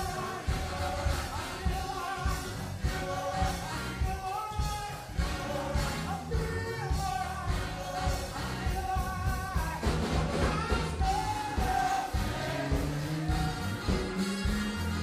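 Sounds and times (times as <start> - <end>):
band with bass and beat: 0.0 - 15.0
gospel singers: 0.0 - 15.0.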